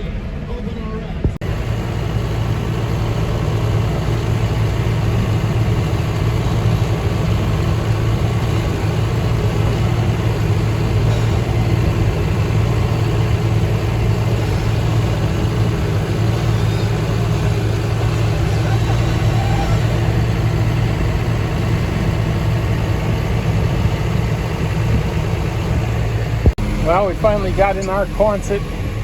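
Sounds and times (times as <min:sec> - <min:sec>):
farm machine engine running: 0:01.4 - 0:29.0.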